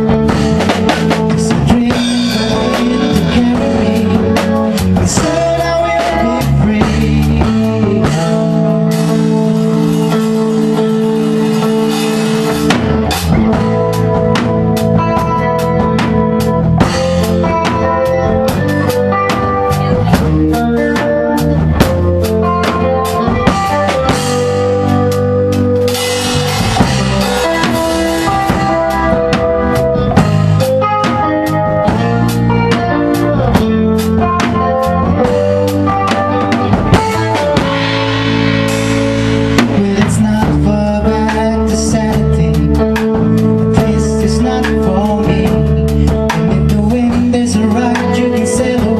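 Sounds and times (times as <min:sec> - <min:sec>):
bass guitar: 0:00.0 - 0:48.9
drum kit beat: 0:00.0 - 0:48.9
electric guitar: 0:00.0 - 0:48.9.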